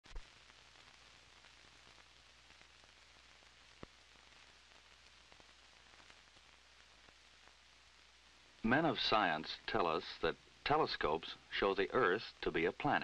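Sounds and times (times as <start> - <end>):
old film soundtrack hiss and crackle: 0.0 - 13.0.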